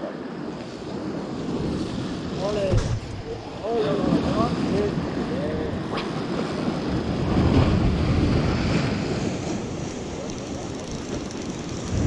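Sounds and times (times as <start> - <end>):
wind buffeting microphone: 0.6 - 12.0.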